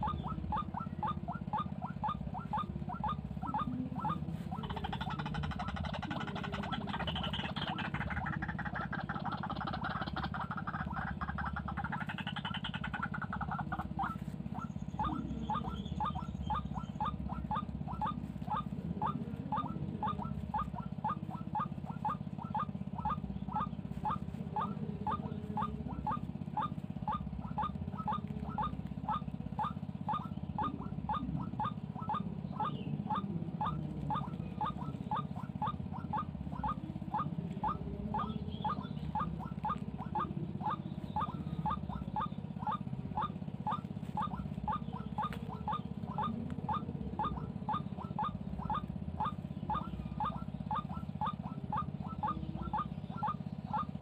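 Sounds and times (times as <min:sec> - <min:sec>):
bird kwak calls: 0:00.0 - 0:54.0
steady low hum: 0:00.0 - 0:54.0.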